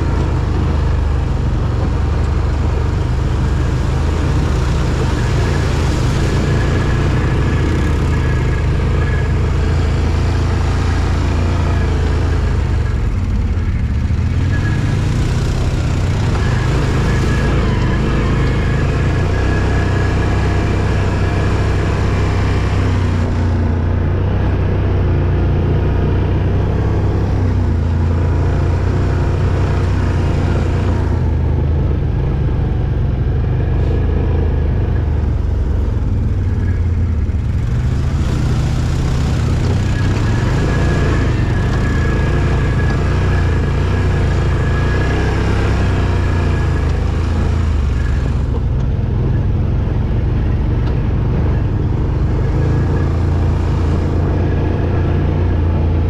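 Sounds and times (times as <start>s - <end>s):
road noise: 0.0s - 56.0s
vehicle engine droning: 0.0s - 56.0s.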